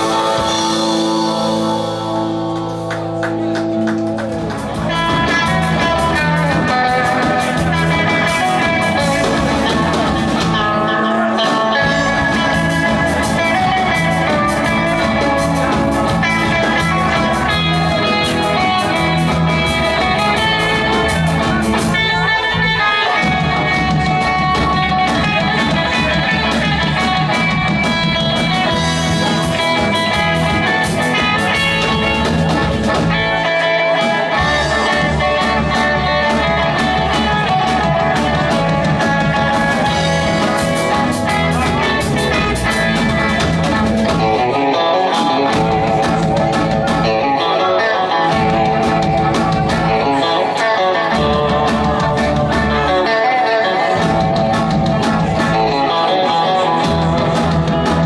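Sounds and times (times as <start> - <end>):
electric guitar: 0.0 - 58.0
rock band instrumental: 0.0 - 58.0.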